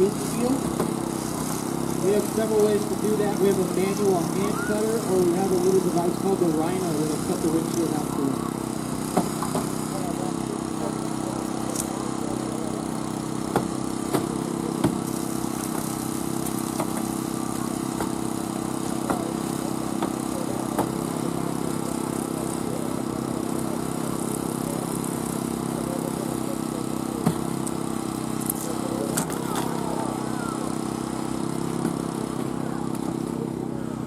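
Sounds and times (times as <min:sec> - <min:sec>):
engine running steadily: 0:00.0 - 0:34.0.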